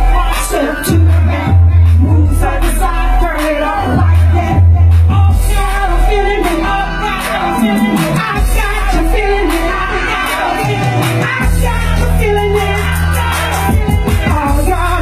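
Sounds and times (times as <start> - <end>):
deep bass line: 0.0 - 15.0
drums: 0.0 - 15.0
person singing: 0.0 - 15.0.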